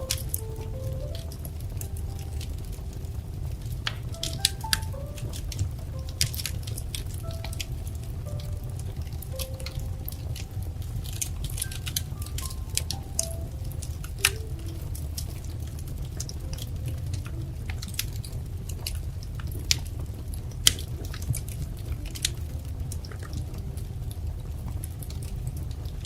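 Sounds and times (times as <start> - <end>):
low rumble of burning logs: 0.0 - 26.0
wood fire crackling: 0.0 - 26.0.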